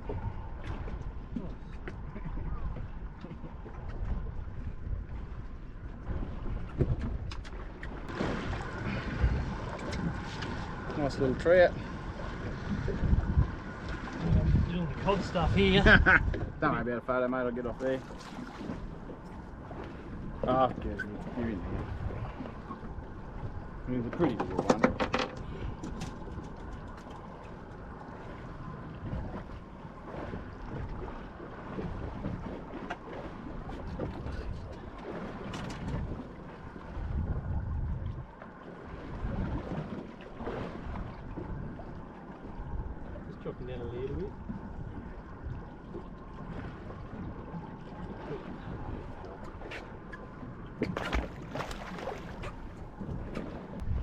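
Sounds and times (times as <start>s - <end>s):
sea noise: 0.0s - 54.0s
wind buffeting microphone: 0.0s - 54.0s.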